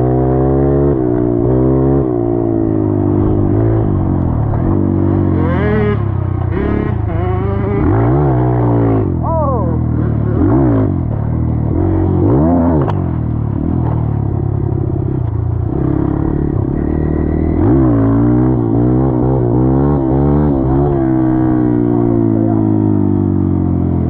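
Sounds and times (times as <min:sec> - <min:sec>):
dirt bike engine revving: 0:00.0 - 0:23.8.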